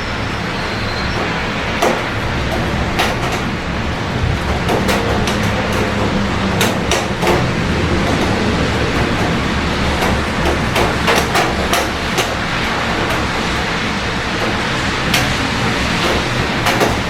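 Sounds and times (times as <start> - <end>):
city traffic hum: 0.0 - 17.0
steady rain: 0.0 - 17.0
sharp ticks of raindrops: 0.1 - 17.0.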